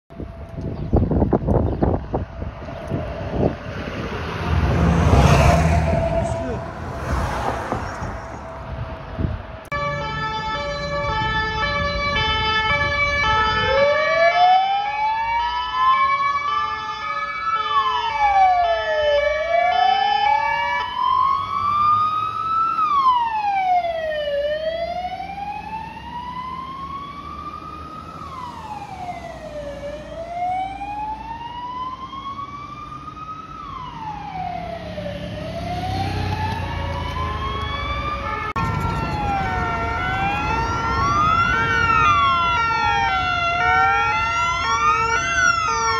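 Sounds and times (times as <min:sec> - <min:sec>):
wail siren rising and falling: 0:00.2 - 0:45.9
two-tone siren: 0:04.4 - 0:45.9.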